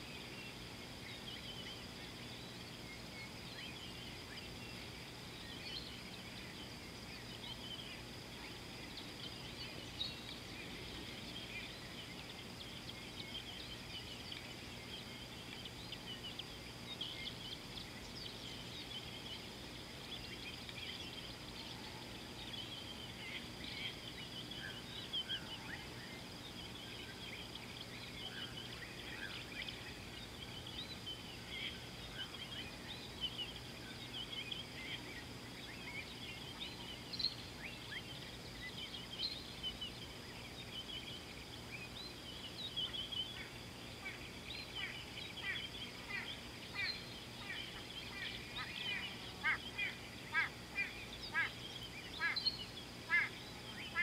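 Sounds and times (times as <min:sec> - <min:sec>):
faint background hiss: 0:00.0 - 0:54.0
small birds chirping: 0:00.0 - 0:54.0.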